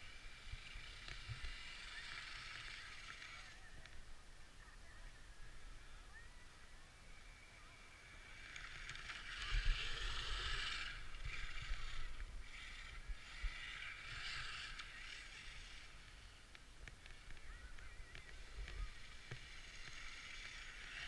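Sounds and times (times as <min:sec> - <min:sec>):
toy truck electric motor whining: 0:00.0 - 0:03.9, 0:07.2 - 0:21.0.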